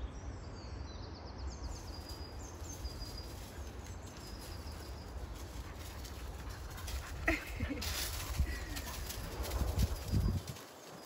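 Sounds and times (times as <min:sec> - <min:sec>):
songbirds calling: 0:00.0 - 0:11.0.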